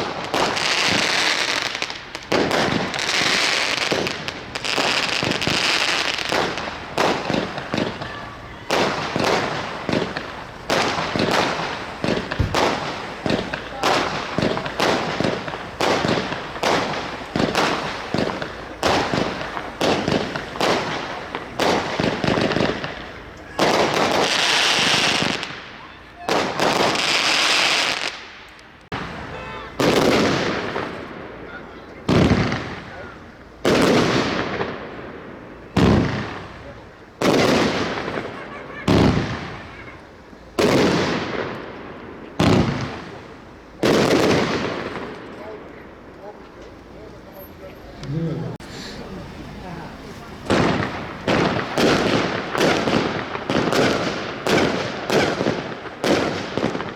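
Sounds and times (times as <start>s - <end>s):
firework bangs: 0.0s - 56.9s.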